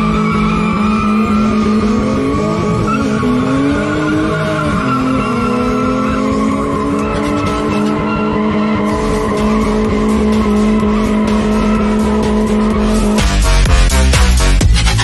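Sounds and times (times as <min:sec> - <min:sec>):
tyres squealing: 0:00.0 - 0:13.9
car engine revving high: 0:00.0 - 0:15.0.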